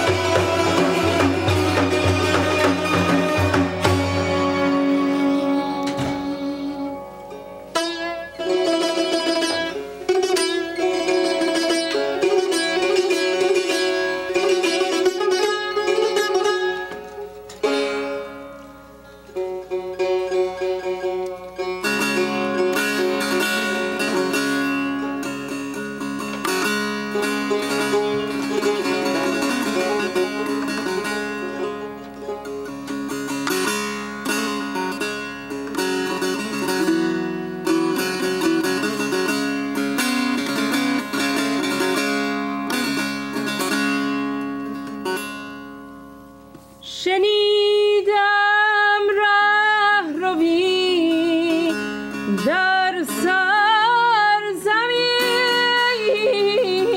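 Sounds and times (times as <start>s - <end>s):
plucked string instrument: 0.0s - 56.9s.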